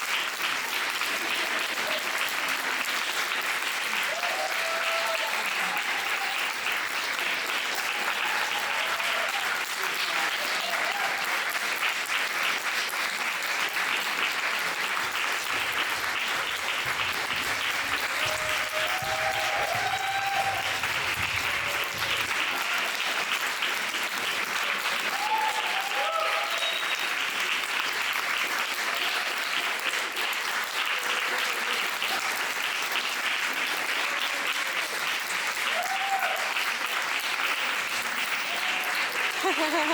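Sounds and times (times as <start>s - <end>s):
audience applauding: 0.0s - 39.9s
calls from crowd: 1.0s - 12.2s, 13.4s - 27.8s, 33.4s - 39.9s.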